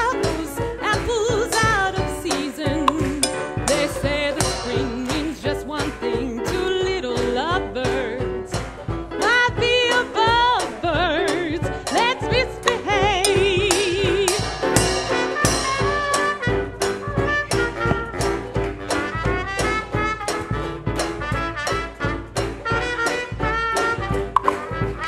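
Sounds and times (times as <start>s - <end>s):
swing band with brass: 0.0s - 25.0s.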